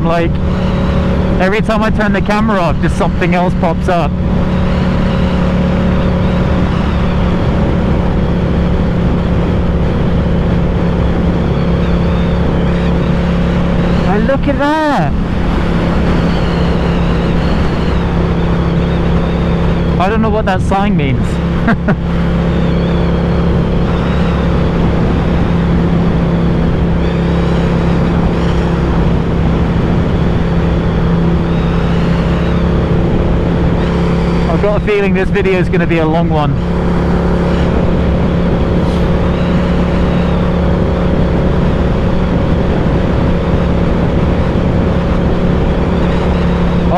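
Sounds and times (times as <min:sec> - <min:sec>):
motorcycle engine running steadily: 0:00.0 - 0:46.9
rushing noise: 0:00.0 - 0:46.9.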